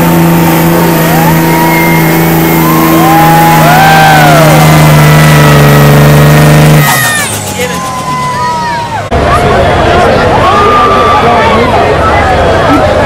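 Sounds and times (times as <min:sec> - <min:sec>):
diesel engine at full throttle: 0:00.0 - 0:13.0
spectators whooping: 0:01.0 - 0:05.8, 0:06.7 - 0:13.0.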